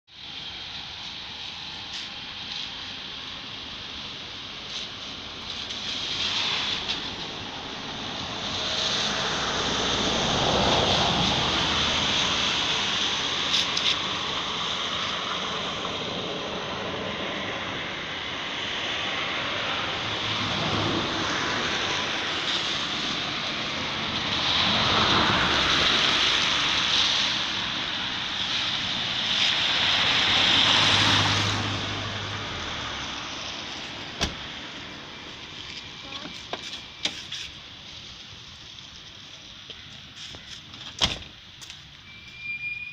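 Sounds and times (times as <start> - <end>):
rain falling: 0.2 - 17.7, 18.8 - 37.0.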